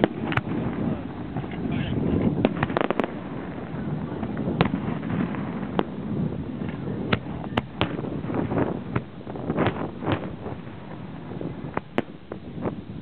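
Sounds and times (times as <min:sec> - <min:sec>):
firework shells bursting: 0:00.0 - 0:12.8
steady low rumble: 0:00.0 - 0:13.0.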